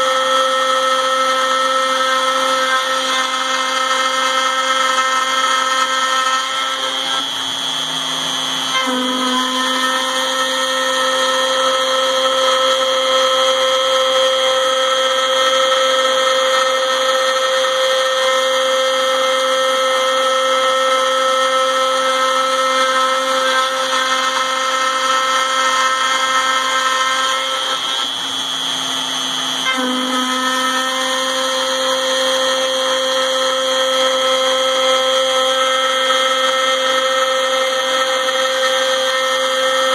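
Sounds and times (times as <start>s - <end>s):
router spindle whining cutting metal: 0.0s - 39.9s.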